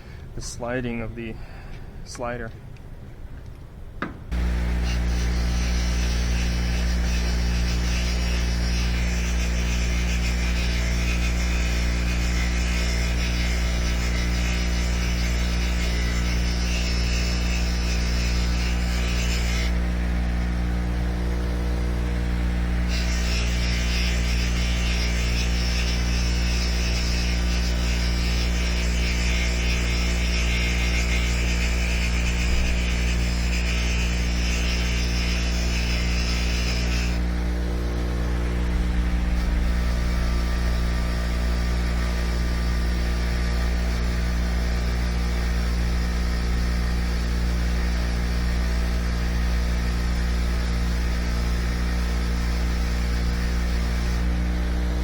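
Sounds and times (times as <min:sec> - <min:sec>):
electric motor running: 0:04.3 - 0:55.0.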